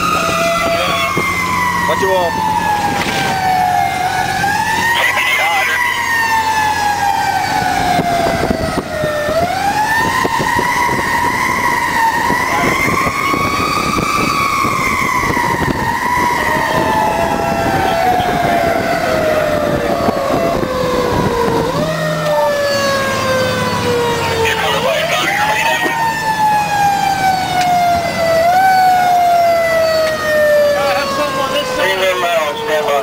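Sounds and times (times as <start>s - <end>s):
engine and road rumble: 0.0s - 33.0s
fire engine siren: 0.0s - 33.0s.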